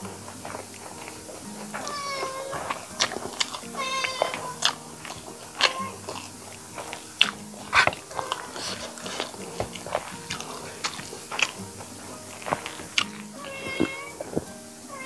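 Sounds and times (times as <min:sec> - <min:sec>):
wet chewing and lip-smacking: 0:00.0 - 0:14.6.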